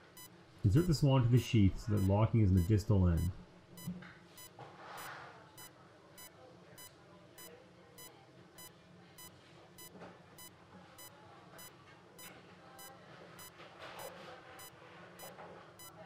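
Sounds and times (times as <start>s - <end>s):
patient monitor beeping: 0.0s - 16.0s.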